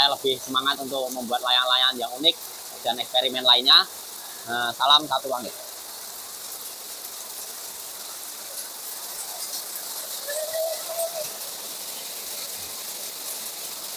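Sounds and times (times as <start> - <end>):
steady rain falling: 0.0 - 13.9.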